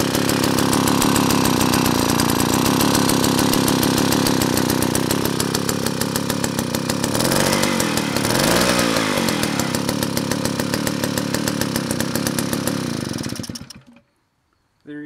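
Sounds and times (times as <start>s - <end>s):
chainsaw engine revving: 0.0s - 14.1s.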